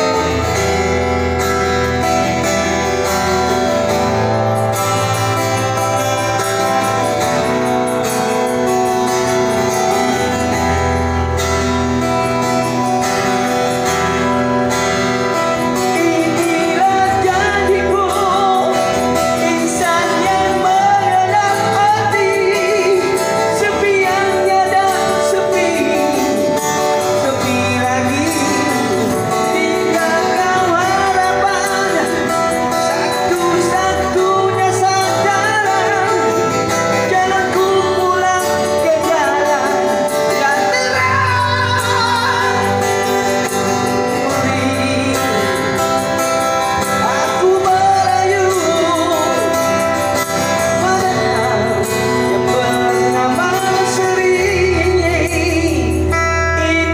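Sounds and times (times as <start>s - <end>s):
person singing: 0.0s - 56.9s
strummed acoustic guitar: 0.0s - 56.9s.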